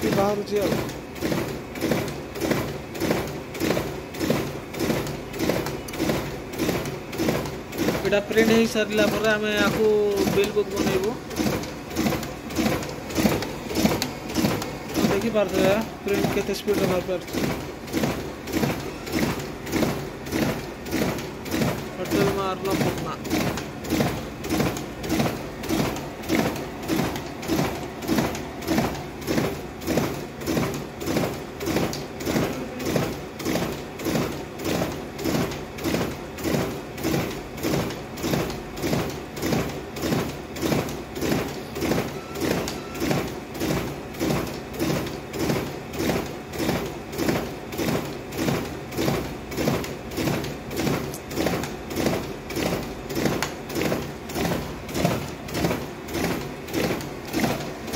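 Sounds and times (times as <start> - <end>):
duplicator printing sheets: 0.0 - 57.9.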